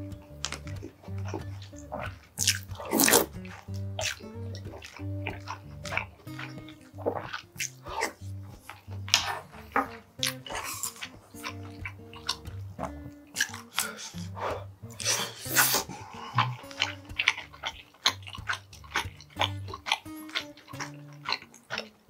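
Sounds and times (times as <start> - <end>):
man chewing with wet smacking: 0.0 - 22.0
slurping: 0.0 - 22.0
soft background music: 0.0 - 22.0
short mouth clicks: 0.3 - 21.9.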